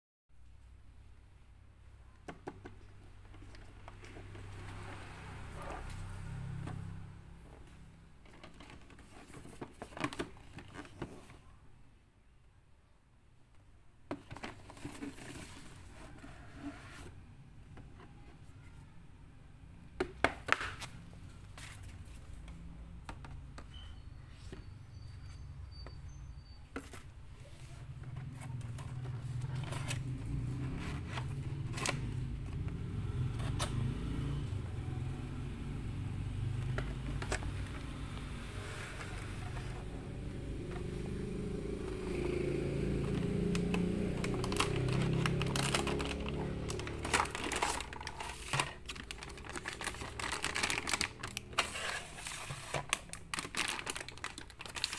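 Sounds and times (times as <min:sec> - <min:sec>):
hands handling cardboard and plastic: 0:02.1 - 0:11.6, 0:14.1 - 0:18.9, 0:20.0 - 0:34.1, 0:35.4 - 0:54.9.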